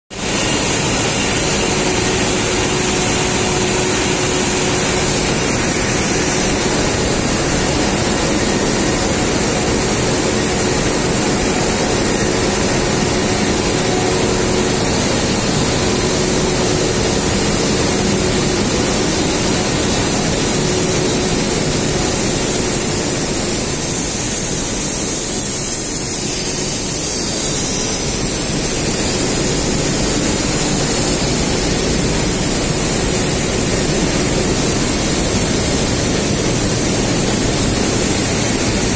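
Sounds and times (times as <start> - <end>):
loud machinery running: 0.1 - 38.9.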